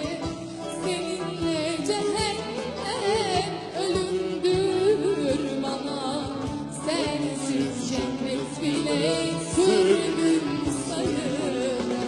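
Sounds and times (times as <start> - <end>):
live band music with percussion: 0.0 - 12.0
woman singing: 0.0 - 12.0.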